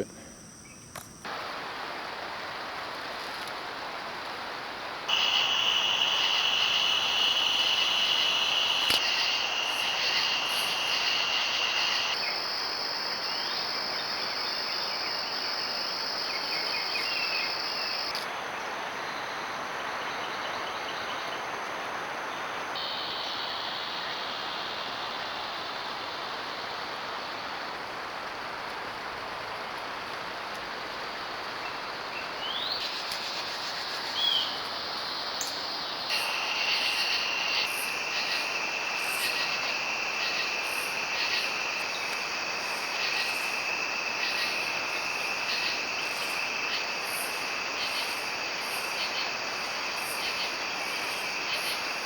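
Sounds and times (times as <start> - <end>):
background hiss: 0.0 - 52.0
crickets and insects trilling: 0.0 - 52.0.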